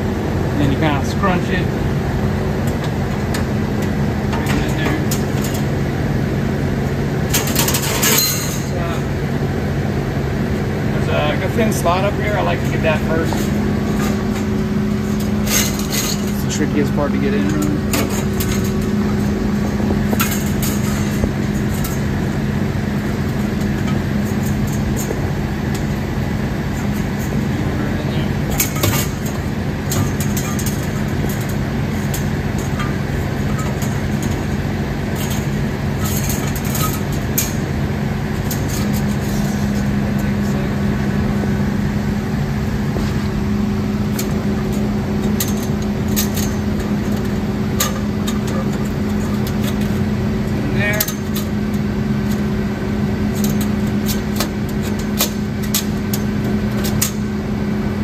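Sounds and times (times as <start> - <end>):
workshop machinery humming: 0.0 - 58.0.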